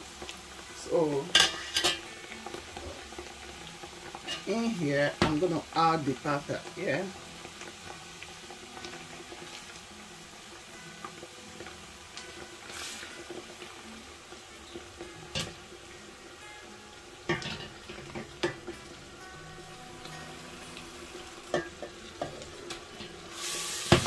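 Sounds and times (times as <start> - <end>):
oil sizzling in a pot: 0.0 - 24.0.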